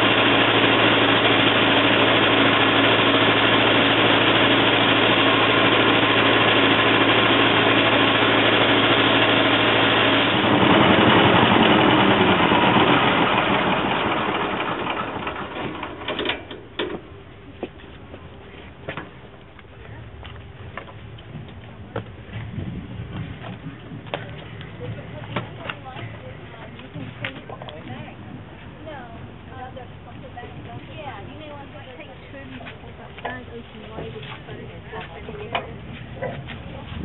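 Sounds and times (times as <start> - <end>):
engine humming: 0.0 - 37.0
hammer mill whirring: 0.0 - 37.0.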